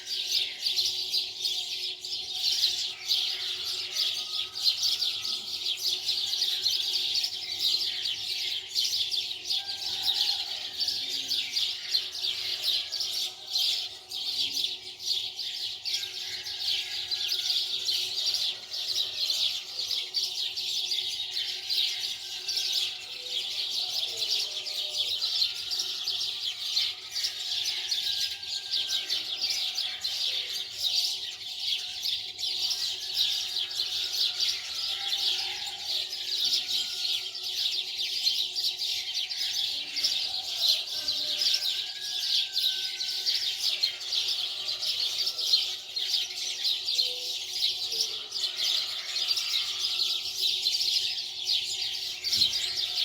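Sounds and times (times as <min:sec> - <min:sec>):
many small birds chirping: 0:00.0 - 0:53.0.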